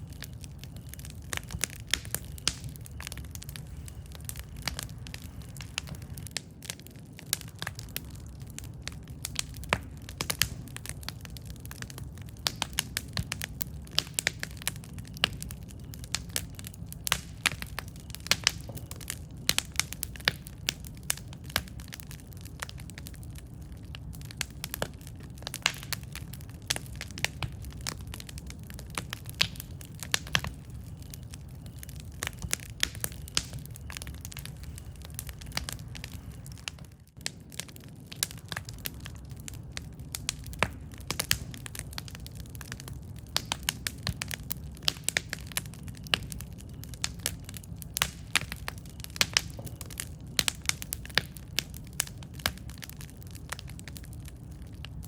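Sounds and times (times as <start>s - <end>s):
fire pops and snaps: 0.0s - 55.0s
low rumble of burning: 0.0s - 55.0s.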